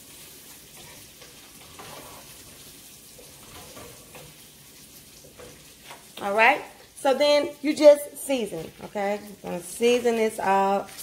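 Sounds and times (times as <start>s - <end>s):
bacon sizzling in a frying pan: 0.0s - 11.0s.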